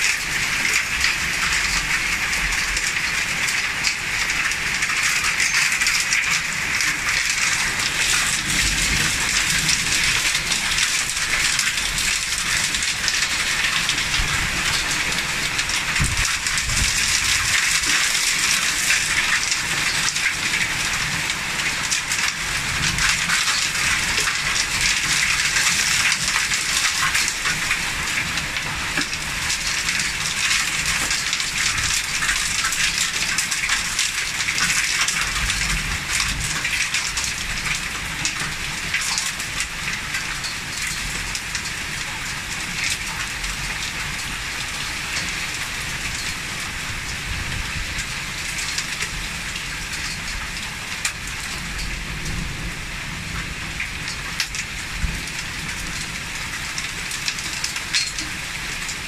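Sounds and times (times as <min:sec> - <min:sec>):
heavy rain and hail pattering: 0:00.0 - 0:59.0.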